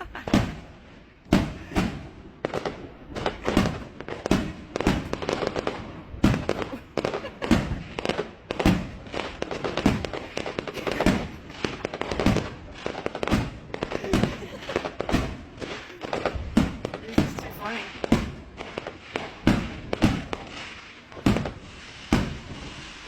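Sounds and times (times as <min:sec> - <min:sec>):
fireworks banging: 0:00.0 - 0:23.0
fireworks crackle: 0:00.0 - 0:23.0.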